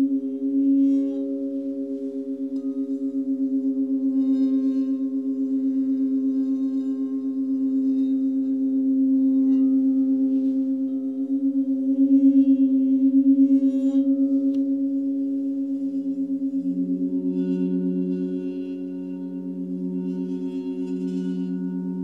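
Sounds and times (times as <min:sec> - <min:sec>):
singing bowls droning: 0:00.0 - 0:22.0.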